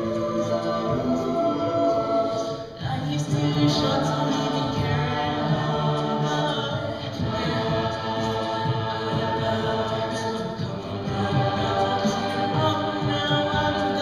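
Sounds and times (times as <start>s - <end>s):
choir singing a cappella: 0.0s - 14.0s.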